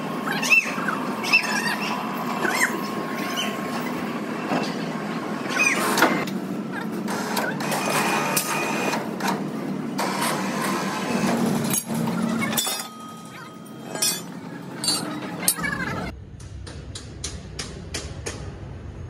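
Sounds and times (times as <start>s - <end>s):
mechanical working noise: 0.0s - 19.0s.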